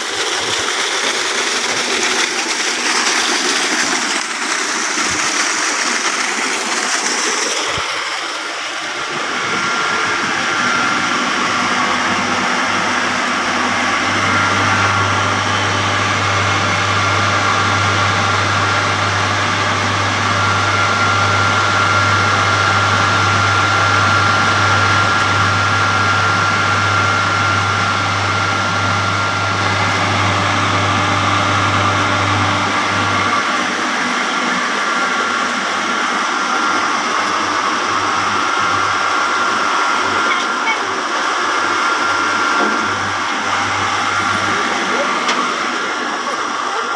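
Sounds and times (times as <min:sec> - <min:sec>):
pump whine: 0:00.0 - 0:46.9
water gushing from pipe: 0:00.0 - 0:46.9
electric motor hum: 0:00.1 - 0:46.9.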